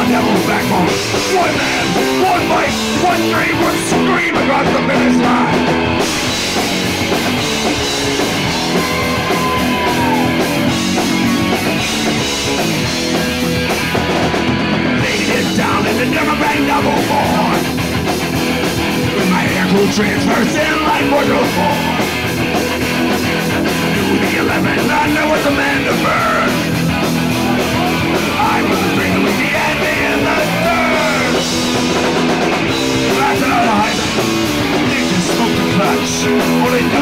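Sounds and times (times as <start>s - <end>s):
drum kit: 0.0s - 37.0s
electric guitars: 0.0s - 37.0s
punk rock band playing: 0.0s - 37.0s.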